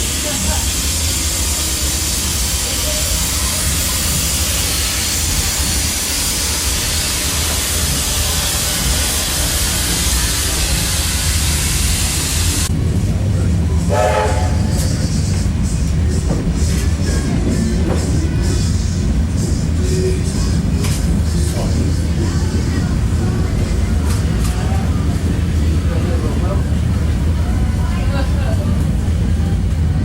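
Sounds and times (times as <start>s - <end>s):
train wheels rumbling on rail: 0.0s - 30.0s
steady rushing noise: 0.9s - 30.0s.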